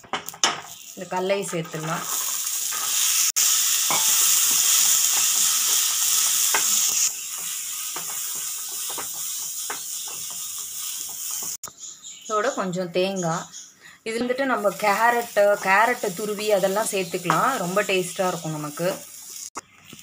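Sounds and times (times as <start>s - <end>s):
peanuts sizzling in oil: 0.0s - 11.6s, 14.1s - 20.0s.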